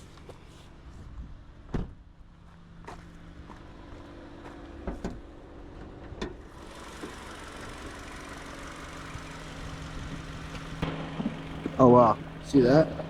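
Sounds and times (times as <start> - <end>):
car engine idling: 2.4 - 13.0.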